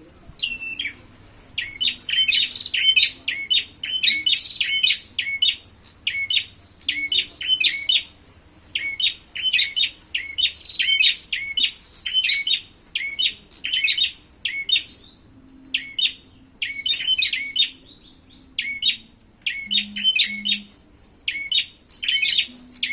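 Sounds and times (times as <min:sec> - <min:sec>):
songbirds chirping sharply: 0:00.0 - 0:22.9.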